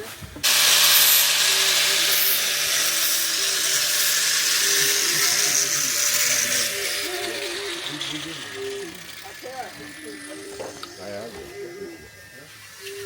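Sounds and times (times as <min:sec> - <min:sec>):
handheld power tool running: 0:00.4 - 0:13.0.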